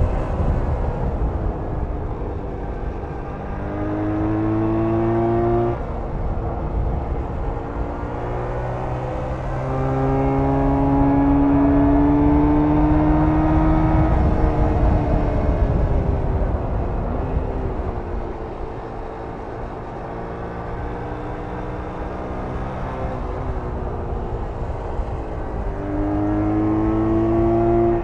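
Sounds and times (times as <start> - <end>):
motorcycle engine accelerating: 0.0 - 28.0
wind and road rumble: 0.0 - 28.0.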